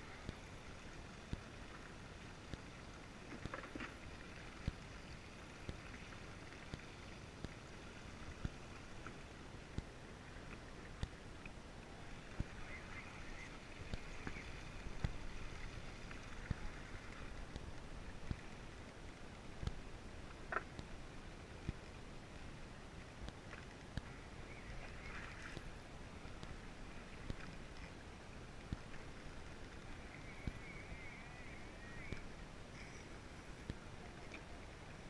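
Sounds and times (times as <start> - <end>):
wind and sea hiss: 0.0 - 35.0.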